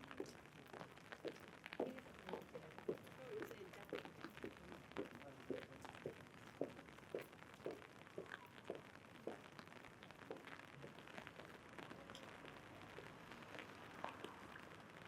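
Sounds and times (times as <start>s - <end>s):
faint rain patter: 0.0s - 15.0s
footsteps on wet pavement: 0.0s - 15.0s.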